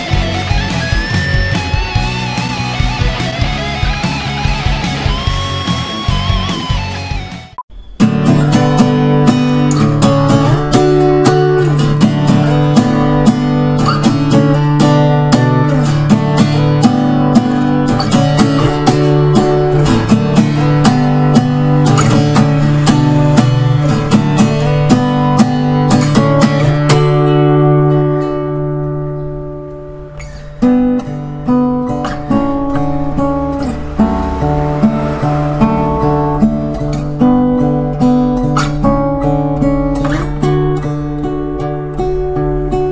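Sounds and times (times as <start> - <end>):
acoustic guitar strummed: 0.0 - 42.9.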